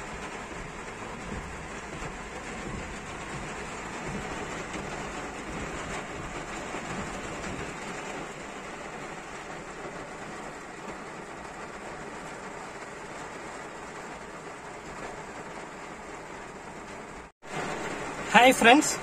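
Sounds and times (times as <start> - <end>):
low vehicle rumble: 0.0 - 18.3
steady rain falling: 0.0 - 19.0.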